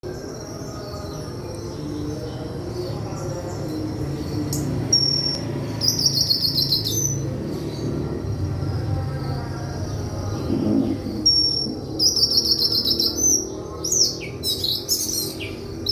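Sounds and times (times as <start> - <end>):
bird chirping and trilling: 0.6 - 8.0, 9.8 - 15.9.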